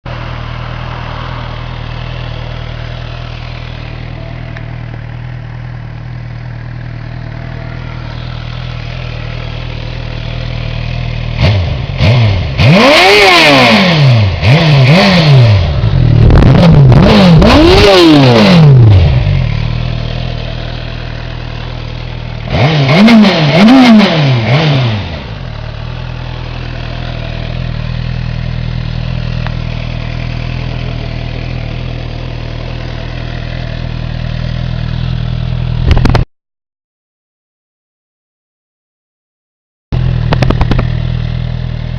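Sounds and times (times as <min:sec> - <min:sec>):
motorcycle engine idling and revving: 0:00.0 - 0:36.3, 0:39.9 - 0:41.9.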